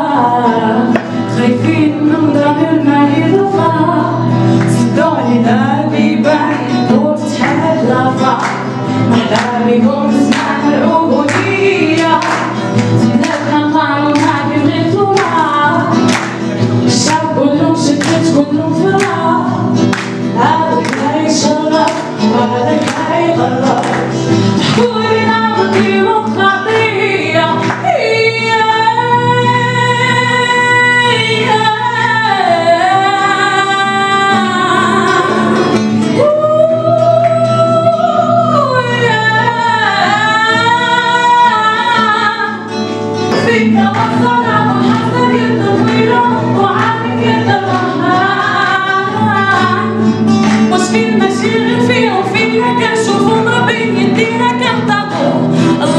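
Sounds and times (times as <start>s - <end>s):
acoustic guitar: 0.0s - 55.9s
woman singing into a microphone: 0.0s - 55.9s.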